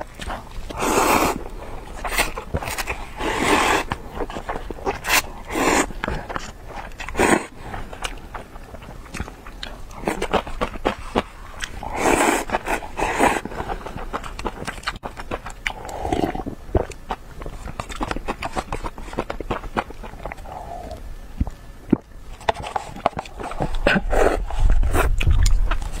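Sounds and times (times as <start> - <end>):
chewing noodles with mouth clicks: 0.0 - 26.0.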